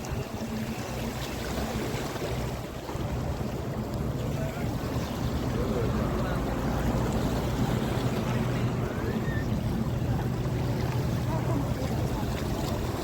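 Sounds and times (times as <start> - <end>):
low engine hum: 0.0 - 13.0
sea waves washing: 0.0 - 13.0
wind on microphone: 0.0 - 13.0.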